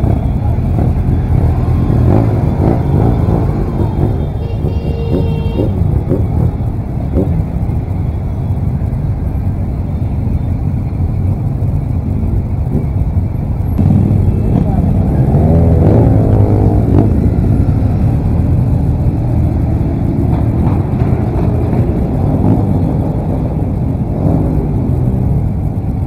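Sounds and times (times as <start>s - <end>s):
motorcycle engine low rumble: 0.0s - 26.0s
other engines: 0.0s - 26.0s.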